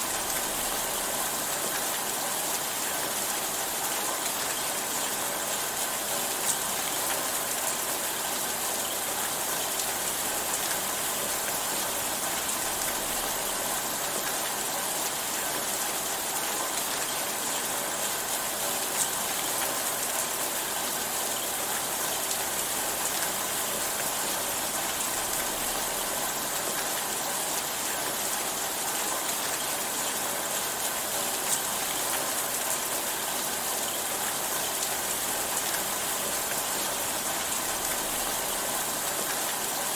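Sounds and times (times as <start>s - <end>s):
rain falling hiss: 0.0s - 39.9s.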